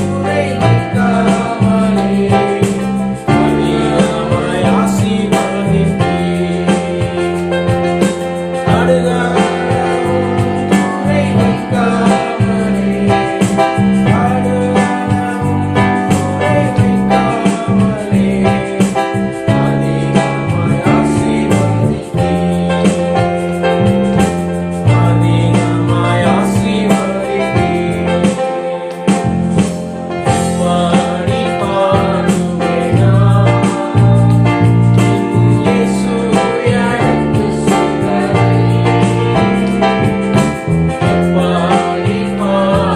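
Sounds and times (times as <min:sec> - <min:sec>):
electric keyboard: 0:00.0 - 0:42.9
person singing worship song: 0:00.0 - 0:42.9.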